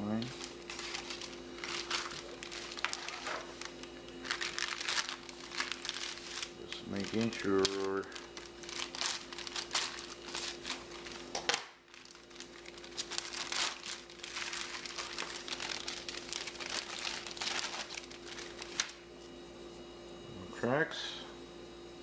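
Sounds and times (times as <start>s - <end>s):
steady faint hum: 0.0s - 22.0s
plastic bags crinkling: 0.1s - 19.0s.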